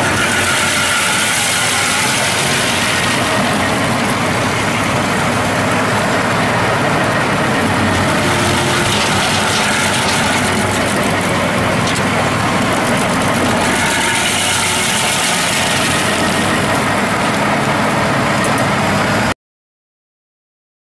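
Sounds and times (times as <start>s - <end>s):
stump crusher grinding: 0.0s - 19.3s
tractor engine working: 0.0s - 19.4s.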